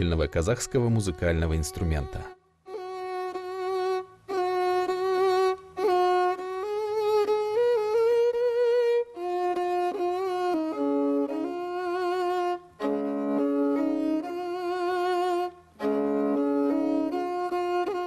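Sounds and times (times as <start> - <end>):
bowed fiddle melody: 0.0 - 18.0.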